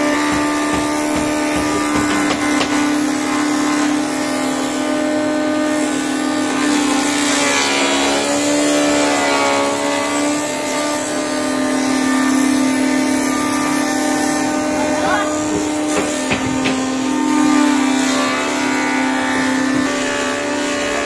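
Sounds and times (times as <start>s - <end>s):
wood planing machine humming: 0.0s - 21.0s.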